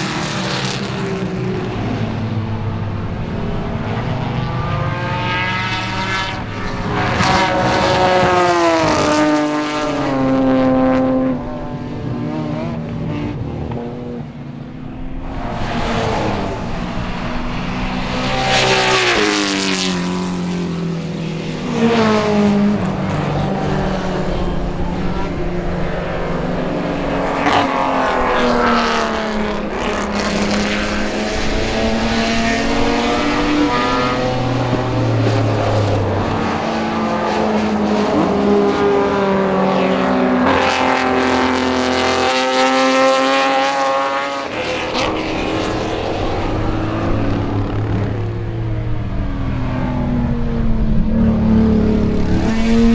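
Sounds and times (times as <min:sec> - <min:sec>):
race cars accelerating past: 0:00.0 - 0:52.9.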